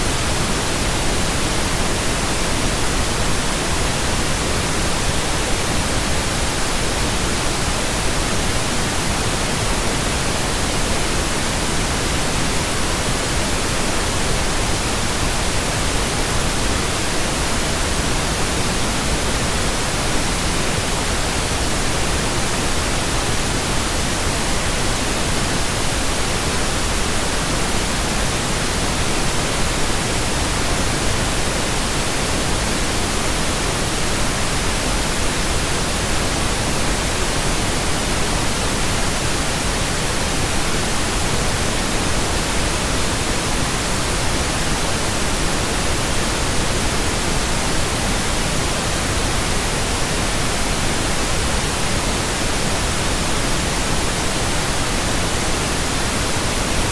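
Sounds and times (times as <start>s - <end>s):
pink noise hiss: 0.0s - 56.9s.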